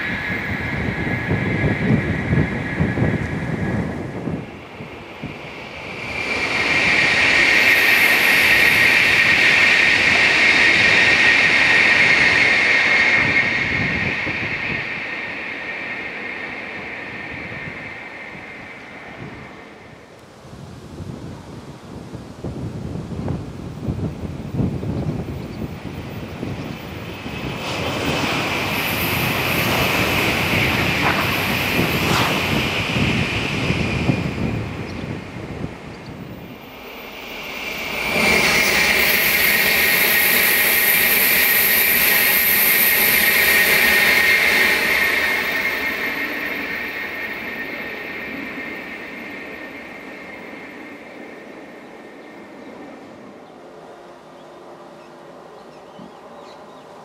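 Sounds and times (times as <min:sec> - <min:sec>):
wind buffeting microphone: 0:00.0 - 0:53.5
train passing at speed: 0:00.0 - 0:57.0.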